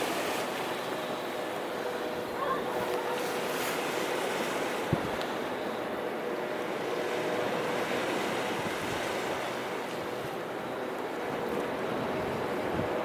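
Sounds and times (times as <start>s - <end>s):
sea waves washing onto shore: 0.0s - 13.0s.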